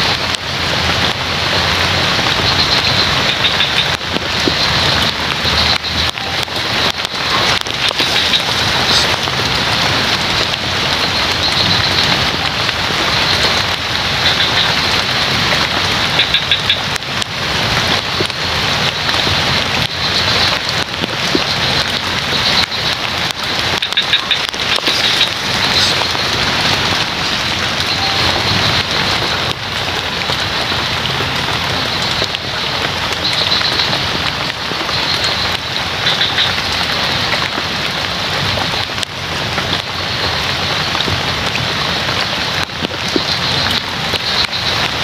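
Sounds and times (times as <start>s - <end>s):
heavy rain on foliage: 0.0s - 45.0s.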